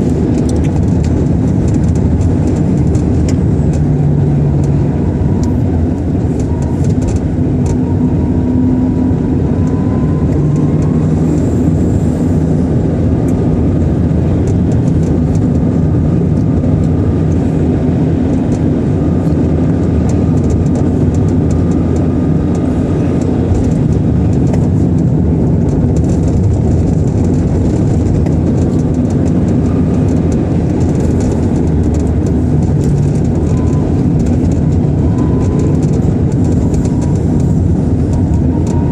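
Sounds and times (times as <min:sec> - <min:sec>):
car driving in strong wind: 0:00.0 - 0:38.9.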